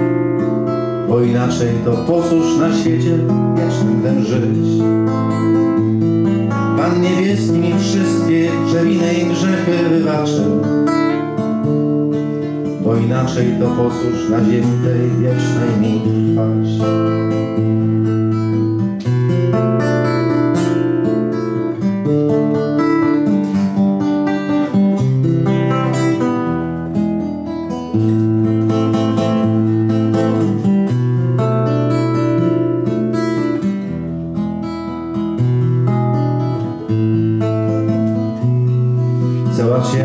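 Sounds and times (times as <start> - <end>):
acoustic guitar strumming chords: 0.0 - 40.0.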